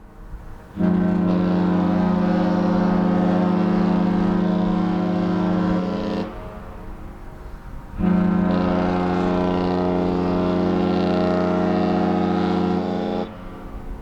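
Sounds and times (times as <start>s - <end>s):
ship horn blast: 0.0s - 14.0s.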